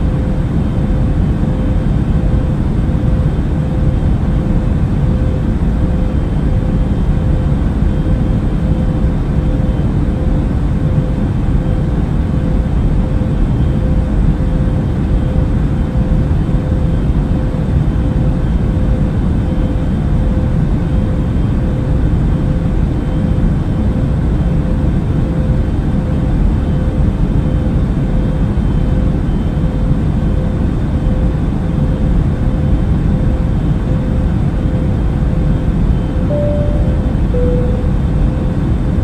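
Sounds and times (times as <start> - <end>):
airplane engine drone: 0.0 - 39.0.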